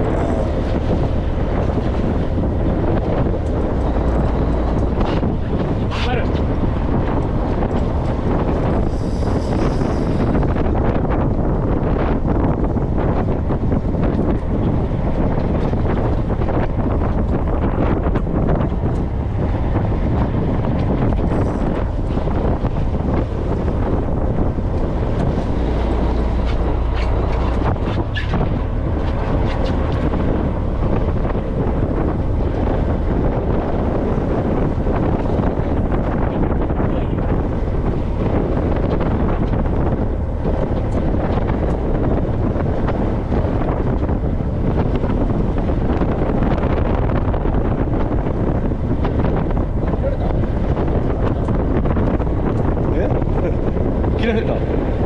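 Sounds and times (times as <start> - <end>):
boat engine running: 0.0 - 55.0
wind rushing over microphone: 0.0 - 55.0.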